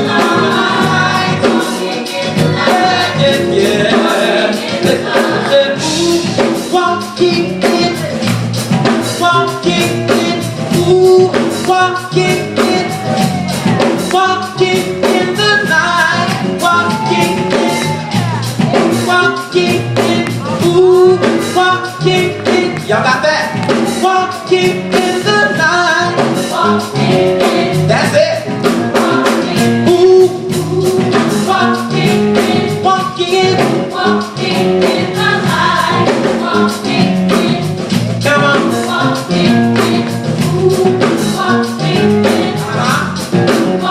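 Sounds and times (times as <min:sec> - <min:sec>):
steady drum beat: 0:00.0 - 0:43.9
vocal group singing in harmony: 0:00.0 - 0:43.9.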